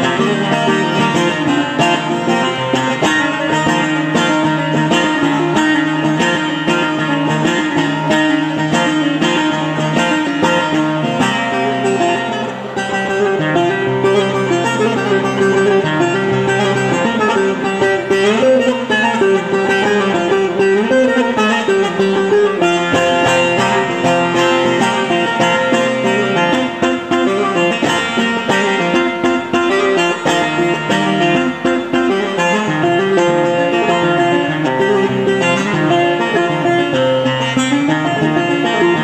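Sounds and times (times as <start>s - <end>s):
long-necked lute picked melody: 0.0s - 39.0s.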